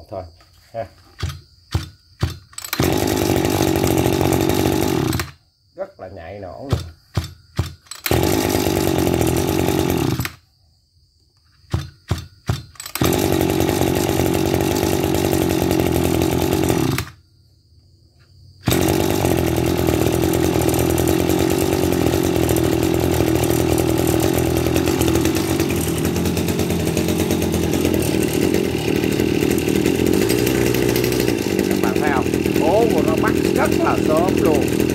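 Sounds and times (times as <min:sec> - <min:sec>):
engine popping while restarting: 0:01.2 - 0:05.3, 0:06.7 - 0:10.3, 0:11.7 - 0:17.2, 0:18.6 - 0:34.9
brush cutter engine running: 0:01.2 - 0:05.4, 0:06.6 - 0:10.4, 0:12.5 - 0:17.2, 0:18.6 - 0:34.9.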